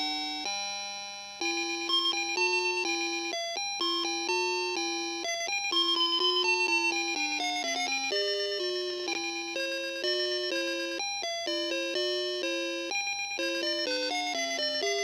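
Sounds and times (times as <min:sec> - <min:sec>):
alarm clock chime melody: 0:00.0 - 0:15.0.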